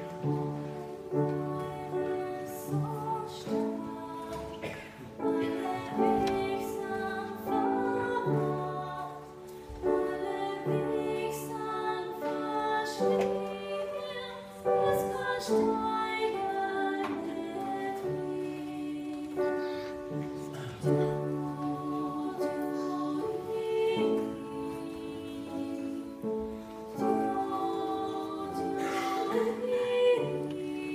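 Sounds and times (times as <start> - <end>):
women singing in harmony: 0.0 - 30.9.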